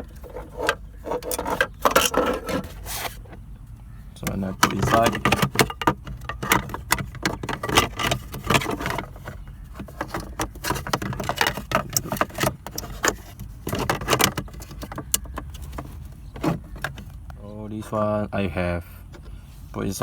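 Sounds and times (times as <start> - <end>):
plastic parts clicking and rattling: 0.0 - 3.4, 4.2 - 17.3.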